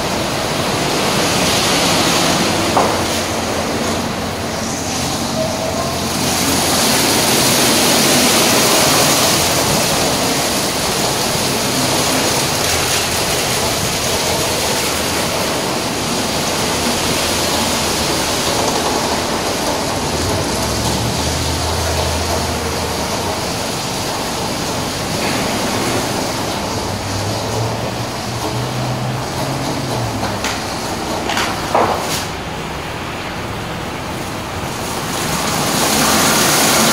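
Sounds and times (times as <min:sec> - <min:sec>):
car wash brush scrubbing: 0:00.0 - 0:36.9
water spraying: 0:00.0 - 0:36.9.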